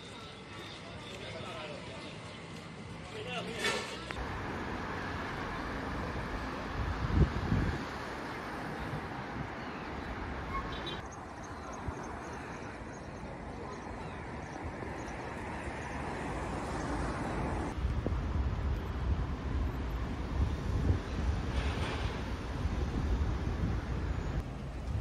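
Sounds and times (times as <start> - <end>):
cars passing on busy street: 0.0 - 25.0.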